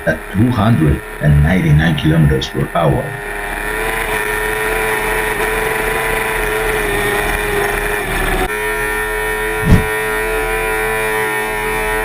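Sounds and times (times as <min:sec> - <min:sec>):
motorcycle engine at high revs: 0:00.0 - 0:08.5, 0:09.4 - 0:12.0.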